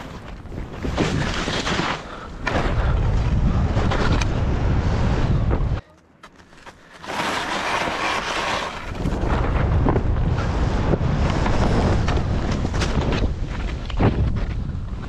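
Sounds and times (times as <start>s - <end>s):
ski thuds: 0.0s - 4.5s, 6.3s - 10.2s, 10.9s - 14.6s
wind rushing over microphone: 0.0s - 5.8s, 8.2s - 15.0s.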